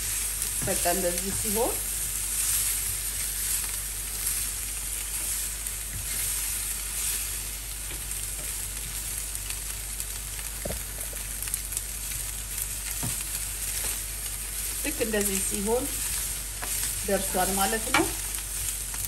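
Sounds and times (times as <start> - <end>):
chicken sizzling on a grill pan: 0.0 - 19.0.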